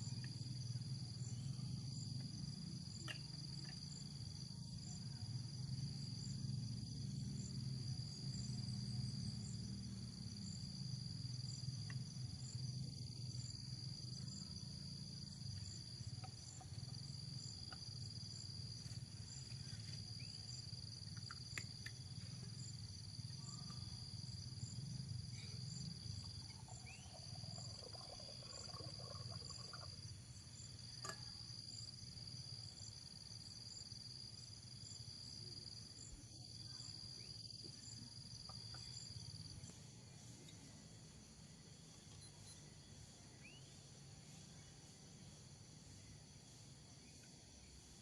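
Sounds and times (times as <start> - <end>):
insect chirping: 0.0 - 48.0
insects trilling high-pitched buzz: 0.0 - 48.0.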